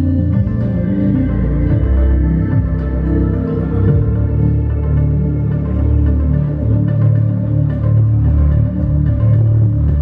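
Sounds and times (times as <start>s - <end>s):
electric bass sliding notes: 0.0s - 10.0s.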